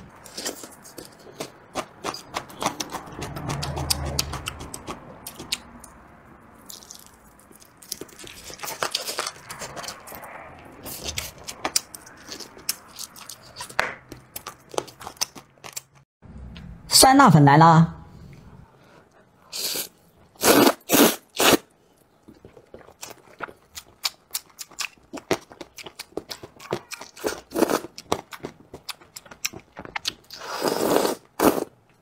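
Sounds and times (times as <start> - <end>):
person chewing: 0.1 - 6.0, 6.6 - 16.0, 19.5 - 31.9.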